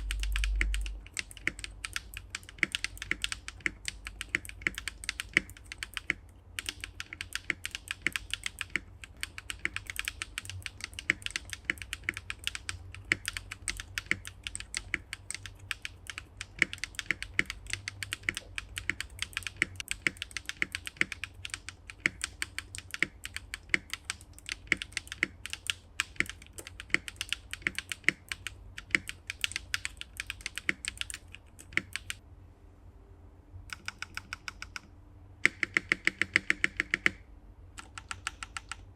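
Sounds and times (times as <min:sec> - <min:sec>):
mechanical keyboard typing: 0:00.0 - 0:32.2, 0:33.7 - 0:38.9.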